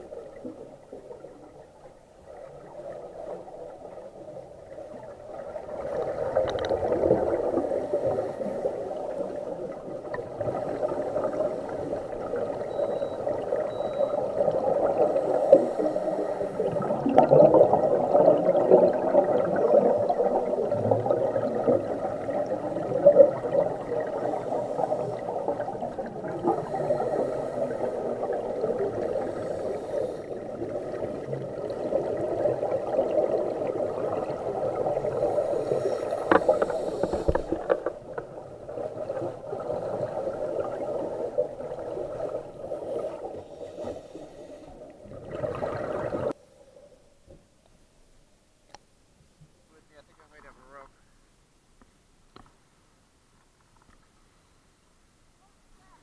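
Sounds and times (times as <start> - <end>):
underwater air bubbles gurgling: 0.0 - 46.4.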